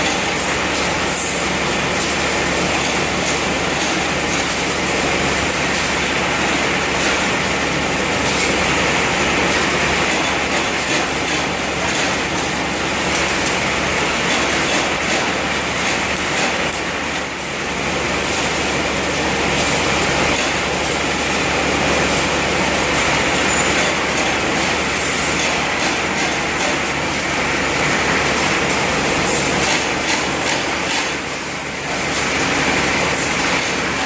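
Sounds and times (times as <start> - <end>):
welding machine rumble: 0.0 - 34.0.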